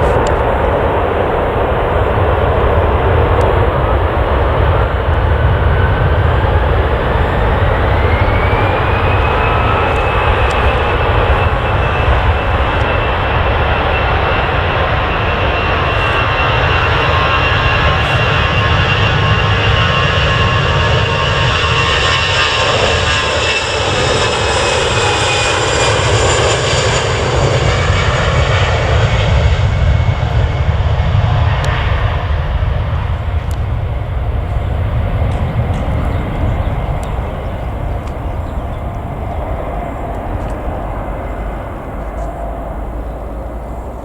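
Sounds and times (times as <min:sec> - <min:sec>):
jet engines spooling up: 0:00.0 - 0:44.0.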